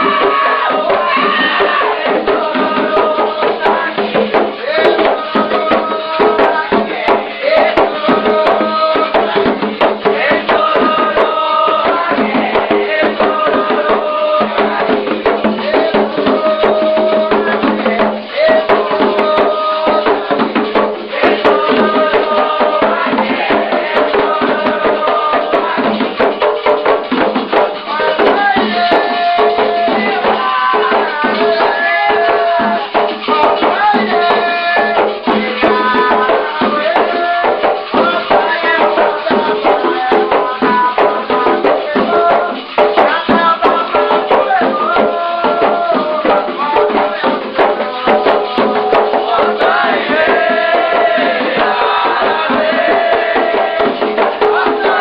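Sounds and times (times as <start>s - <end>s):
group singing chants: 0.0s - 55.0s
hand drums: 0.0s - 55.0s.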